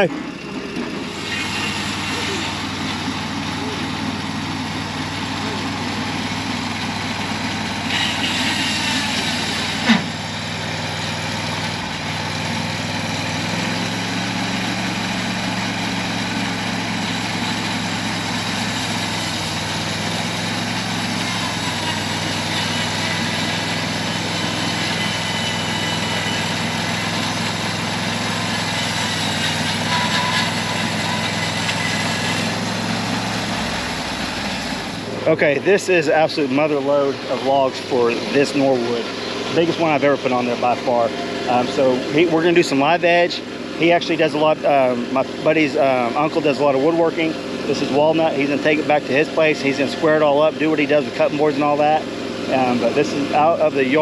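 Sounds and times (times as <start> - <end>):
engine idling hum: 0.0 - 8.4, 9.1 - 54.0.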